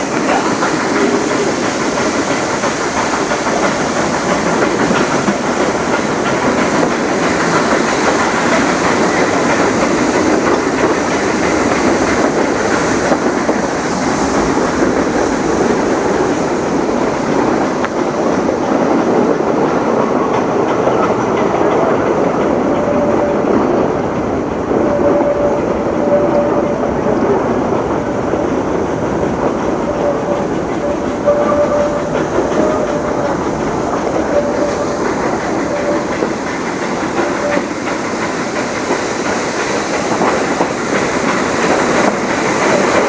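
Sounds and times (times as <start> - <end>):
train wheels clattering on rails: 0.0 - 43.0.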